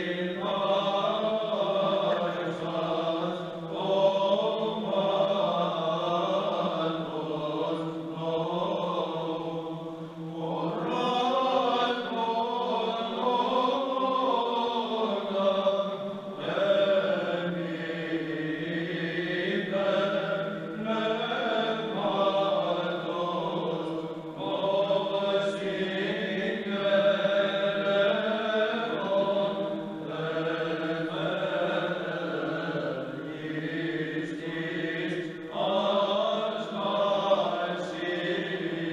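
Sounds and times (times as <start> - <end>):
low vocal drone: 0.0 - 38.9
men's choir chanting: 0.0 - 38.9.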